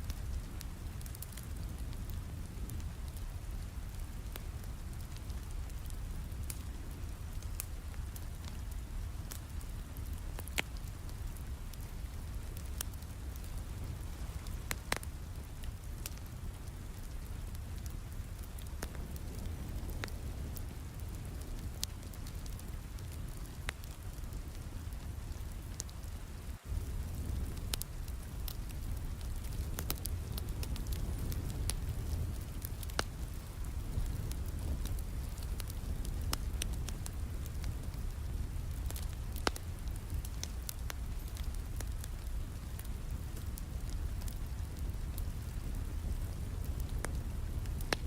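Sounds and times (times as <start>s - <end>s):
steady rain: 0.0s - 48.0s
wood fire crackling: 0.0s - 48.0s.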